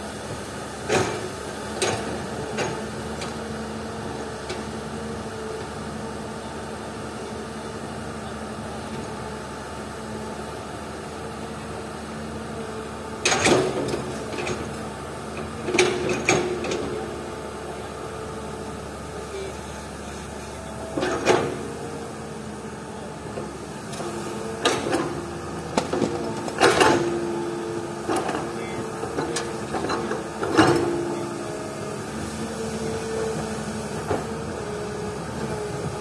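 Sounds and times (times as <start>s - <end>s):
excavator engine and hydraulics: 0.0s - 36.0s.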